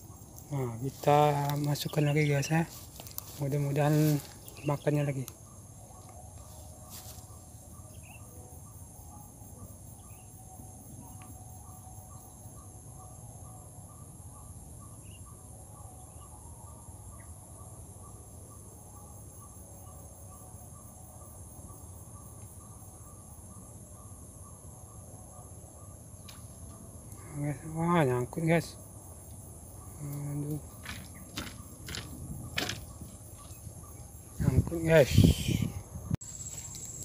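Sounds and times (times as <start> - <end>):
insects droning: 0.0 - 37.0
ticking insect call: 0.0 - 37.0.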